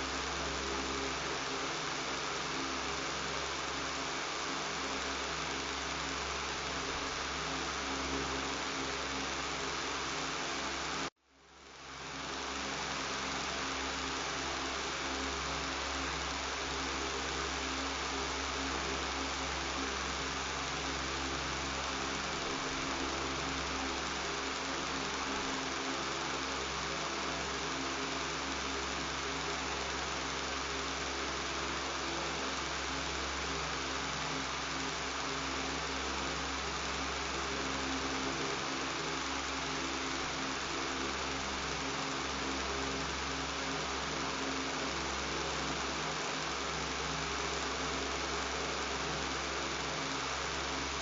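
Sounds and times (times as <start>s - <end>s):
fan motor hum: 0.0s - 51.0s.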